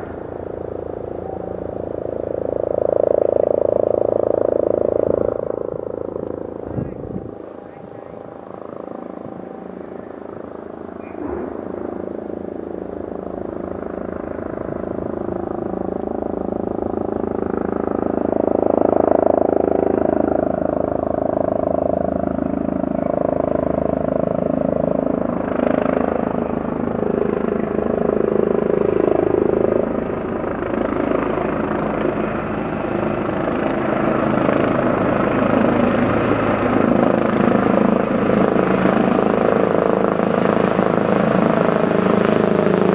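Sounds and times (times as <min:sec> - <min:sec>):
helicopter rotor and engine: 0:00.0 - 0:42.9.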